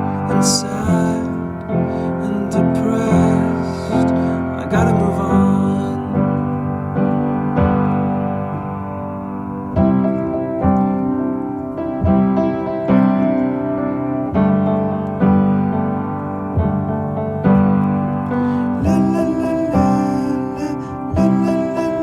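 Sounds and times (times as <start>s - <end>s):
soft piano chords: 0.0s - 22.0s.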